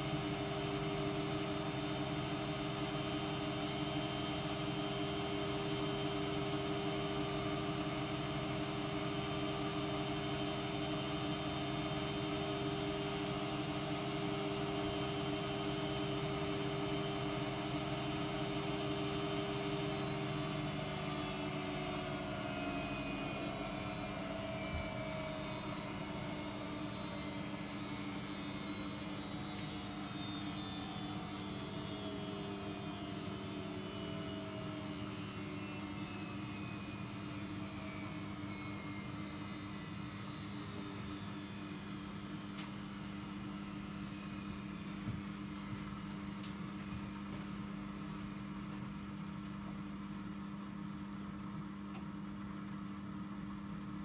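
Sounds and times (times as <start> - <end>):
washing machine spin whine: 0.0 - 54.0.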